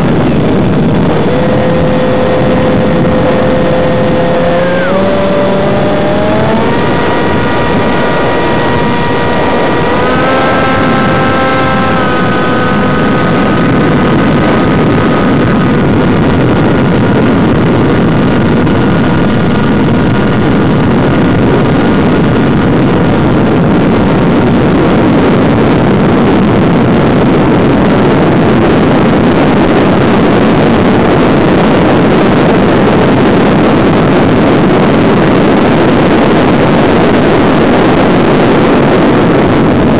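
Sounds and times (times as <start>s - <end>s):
airflow rush: 0.0s - 39.9s
model plane motor and propeller: 0.0s - 39.9s.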